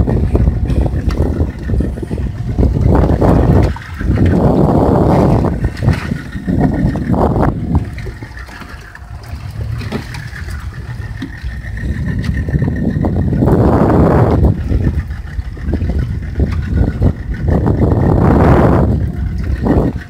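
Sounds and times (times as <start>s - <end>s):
water sloshing around boat: 0.0s - 20.0s
wind buffeting microphone: 0.0s - 20.0s.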